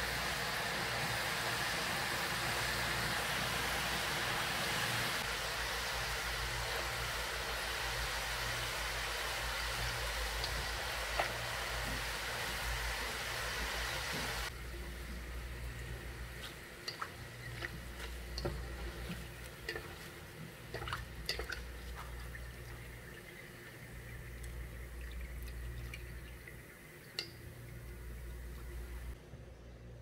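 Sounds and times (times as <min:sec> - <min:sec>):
dough deep-frying in oil: 0:00.0 - 0:29.2
steady low hum: 0:05.2 - 0:30.0.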